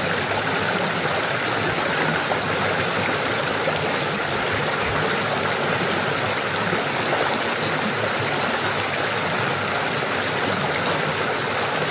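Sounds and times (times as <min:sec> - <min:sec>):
stream water rushing over rocks: 0:00.0 - 0:11.9.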